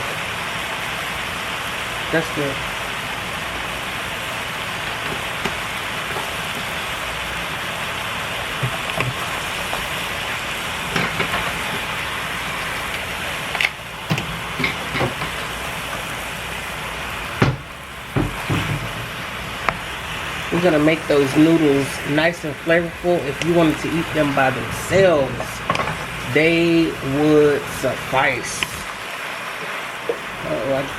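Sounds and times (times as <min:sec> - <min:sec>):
food sizzling on stovetop: 0:00.0 - 0:30.9.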